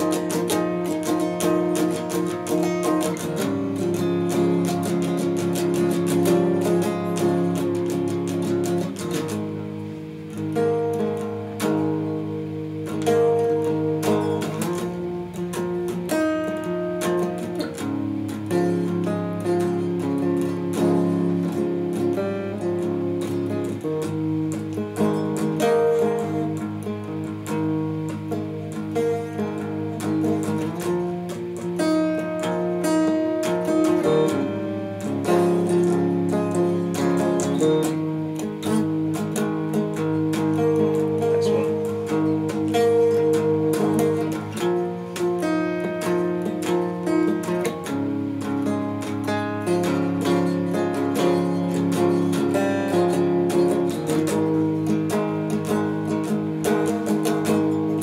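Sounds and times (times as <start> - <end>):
electric guitar picking: 0.0 - 58.0.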